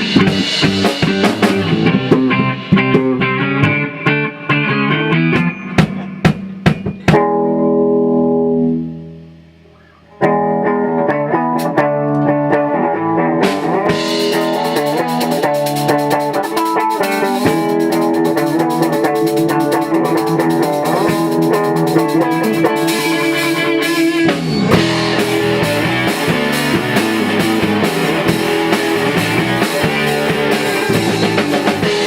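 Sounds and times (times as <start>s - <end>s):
bass: 0.0s - 32.0s
drum kit: 0.0s - 32.0s
guitar: 0.0s - 32.0s.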